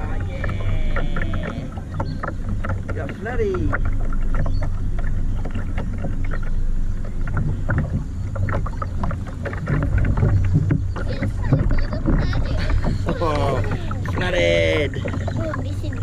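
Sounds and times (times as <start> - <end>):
boat motor hum and rumble: 0.0 - 16.0
water knocking against hull: 0.0 - 16.0.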